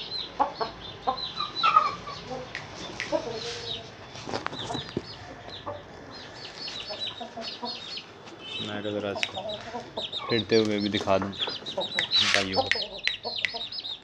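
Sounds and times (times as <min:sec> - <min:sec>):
chickens clucking: 0:00.0 - 0:14.0
high falling chicken calls: 0:00.0 - 0:14.0.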